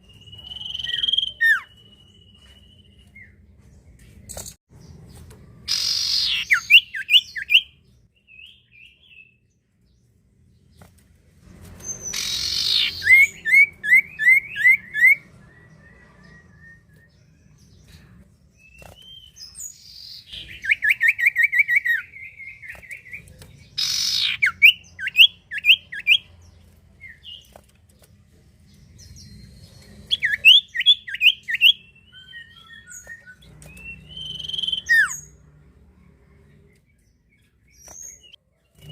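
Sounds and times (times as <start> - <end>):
bird singing: 0.0 - 10.8, 11.8 - 38.9.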